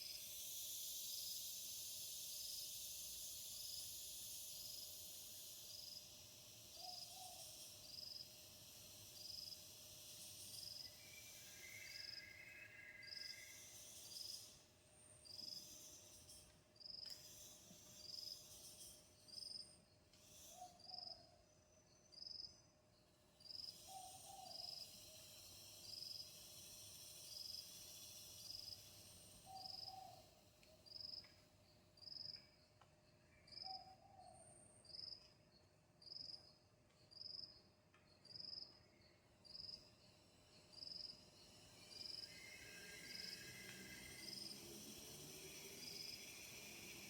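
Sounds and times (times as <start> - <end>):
insect chirping: 0.0 - 47.0.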